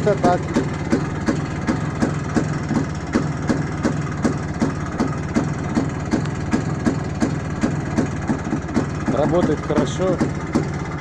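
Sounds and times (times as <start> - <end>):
sharp engine tick: 0.0 - 10.8
motorcycle engine idling: 0.0 - 11.0.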